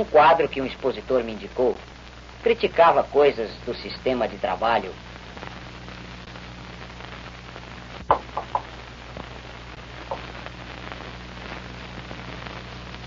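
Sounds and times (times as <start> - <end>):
old film soundtrack hiss and crackle: 0.0 - 13.0.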